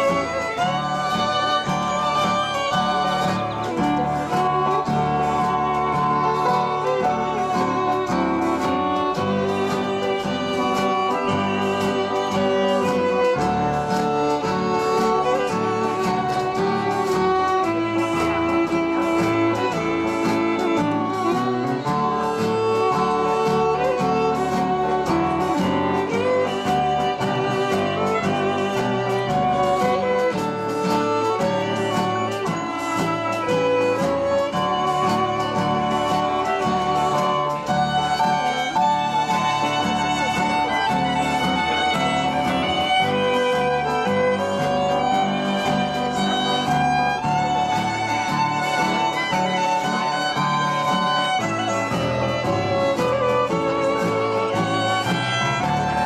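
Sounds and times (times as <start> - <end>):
acoustic guitar strumming: 0.0 - 56.0
fiddles playing a tune: 0.0 - 56.0.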